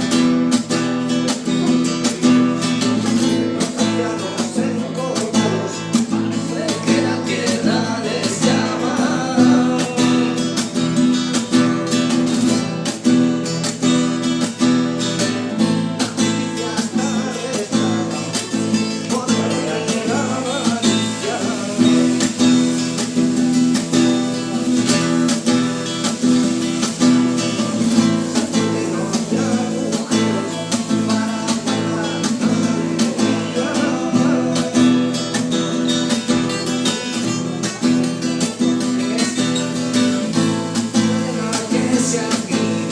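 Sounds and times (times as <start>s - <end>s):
acoustic guitar strumming and picking: 0.0s - 42.9s.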